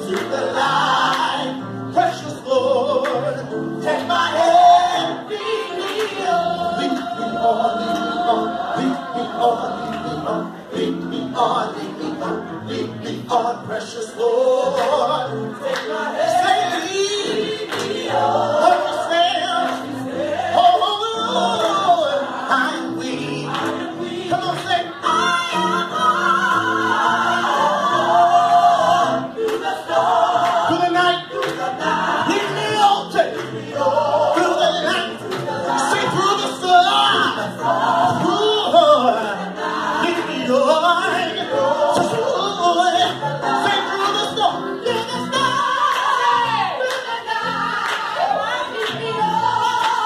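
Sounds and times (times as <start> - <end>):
gospel choir singing: 0.0 - 50.0
lead voice singing: 0.0 - 50.0.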